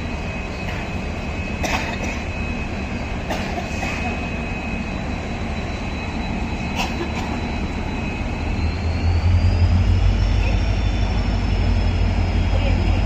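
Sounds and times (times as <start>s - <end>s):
thin high whine: 0.0s - 13.0s
train rumble: 0.0s - 13.0s.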